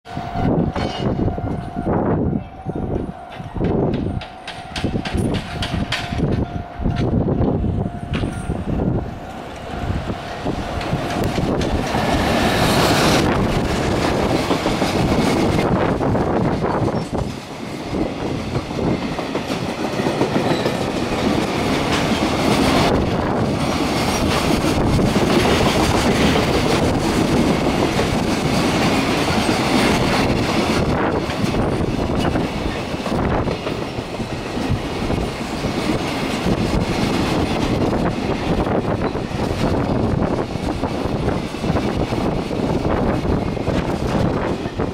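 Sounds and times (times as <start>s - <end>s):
freight train rumbling past: 0.0s - 44.9s
wheels clicking over rail joints: 3.3s - 7.1s, 10.7s - 43.0s.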